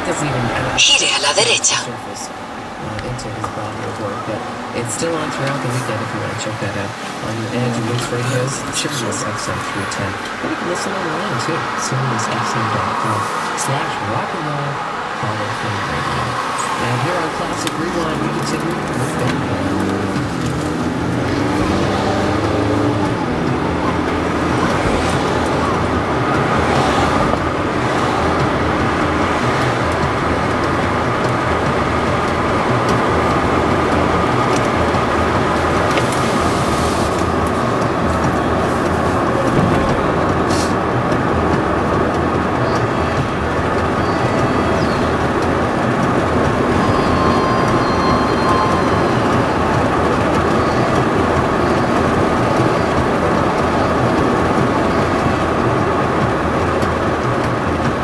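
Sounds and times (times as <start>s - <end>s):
car engine cruising: 0.0s - 58.0s
tyres on pavement: 2.3s - 58.0s.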